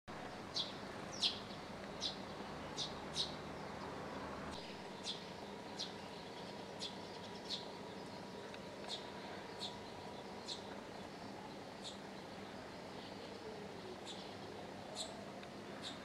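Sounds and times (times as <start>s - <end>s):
low background hiss: 0.1s - 16.0s
sparrow chirping: 0.4s - 13.2s, 14.0s - 15.2s, 15.8s - 16.0s.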